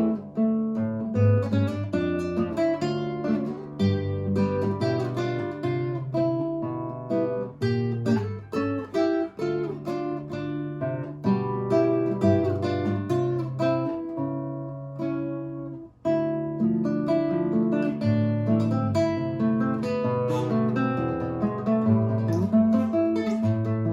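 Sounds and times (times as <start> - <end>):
acoustic guitar folk melody: 0.0 - 23.9.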